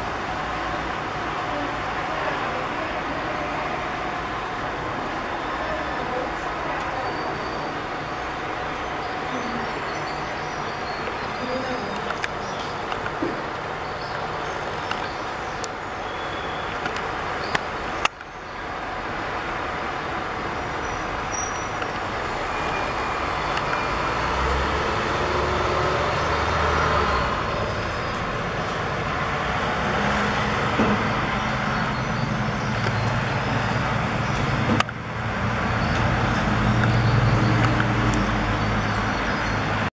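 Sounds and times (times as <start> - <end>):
passing cars: 0.0 - 39.9.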